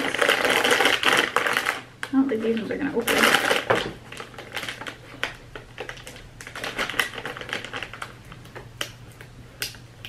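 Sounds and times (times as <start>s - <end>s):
plastic bags crinkling: 0.0s - 8.7s.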